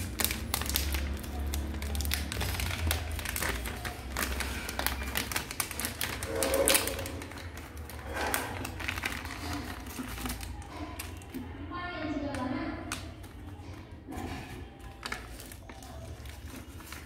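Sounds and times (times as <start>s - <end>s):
plastic snack pouch crinkling: 0.0s - 17.0s.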